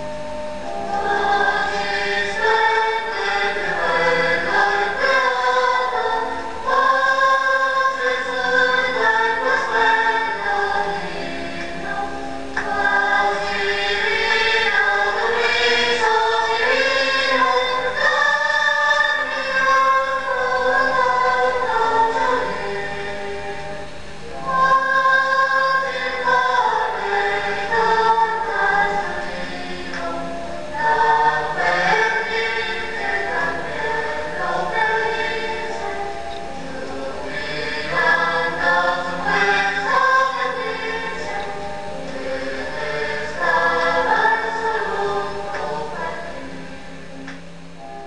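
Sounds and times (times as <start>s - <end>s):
choir singing in harmony: 0.0s - 48.0s.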